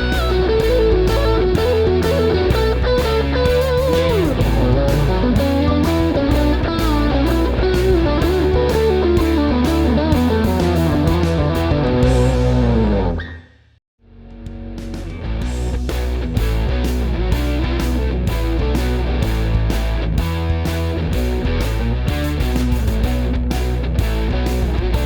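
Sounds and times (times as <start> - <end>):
drums steady beat: 0.0 - 12.7, 14.8 - 25.0
overdriven electric guitar: 0.0 - 13.4, 14.8 - 25.0
bass guitar: 0.0 - 25.0.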